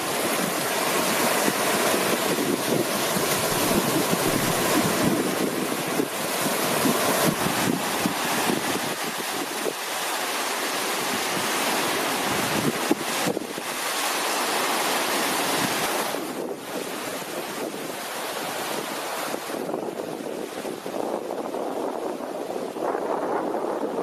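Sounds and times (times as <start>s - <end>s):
wind buffeting microphone: 0.0s - 10.0s, 11.0s - 13.8s, 15.3s - 24.0s
waves breaking on sandy beach: 0.0s - 24.0s.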